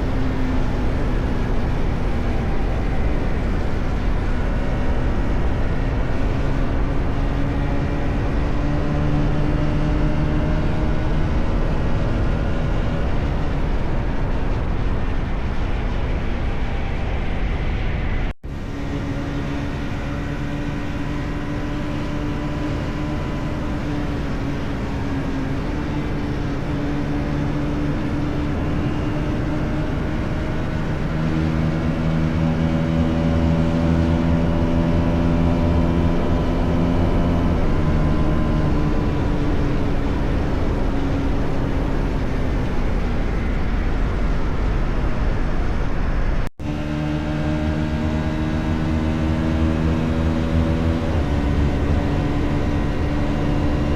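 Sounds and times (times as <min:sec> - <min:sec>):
motorcycle engine and exhaust: 0:00.0 - 0:53.9.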